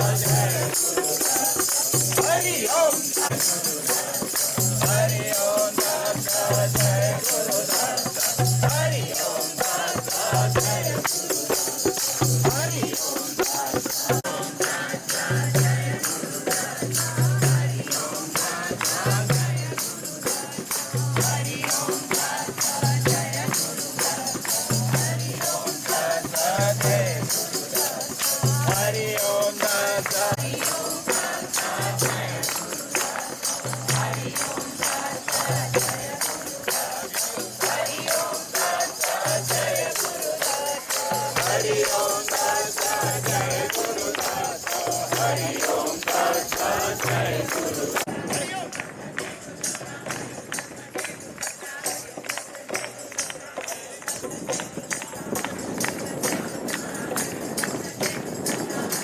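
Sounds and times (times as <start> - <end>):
group singing: 0.0 - 59.0
jingling hand percussion: 0.0 - 59.0.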